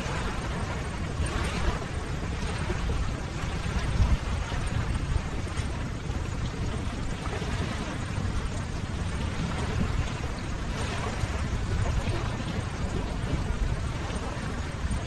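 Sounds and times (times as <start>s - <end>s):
ocean waves surf: 0.0s - 15.0s.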